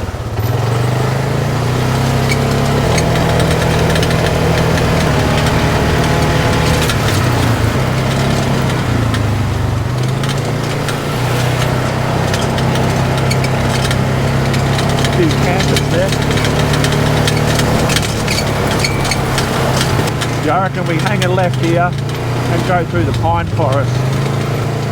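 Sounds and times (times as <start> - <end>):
clicks and rattles on dirt track: 0.0 - 24.9
off-road vehicle engine running: 0.0 - 24.9.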